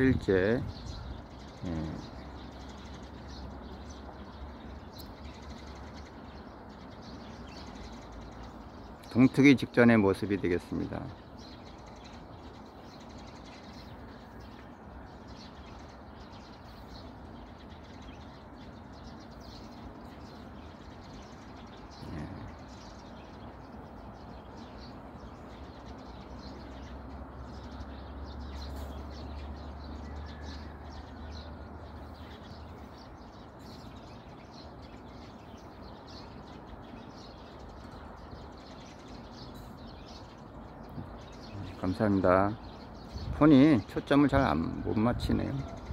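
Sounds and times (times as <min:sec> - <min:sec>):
outdoor background hiss: 0:00.0 - 0:45.9
sparrows chirping faintly: 0:00.0 - 0:45.9.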